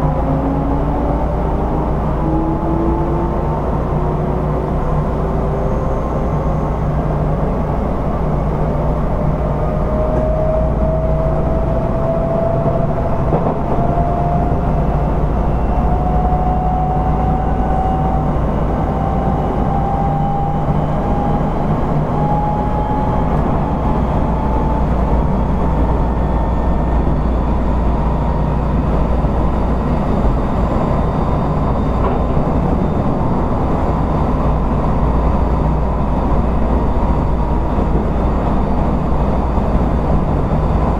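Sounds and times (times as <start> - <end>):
train wheels rumbling: 0.0 - 40.9.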